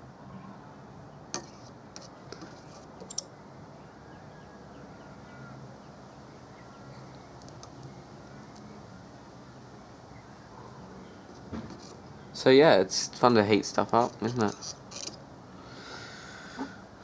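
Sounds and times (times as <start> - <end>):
steady low background noise: 0.0 - 17.0
faint distant bird calls: 0.2 - 17.0.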